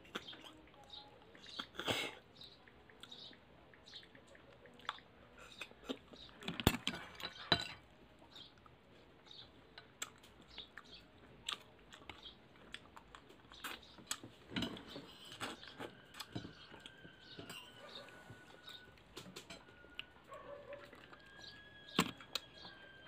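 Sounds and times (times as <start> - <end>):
chewing: 0.0 - 22.8.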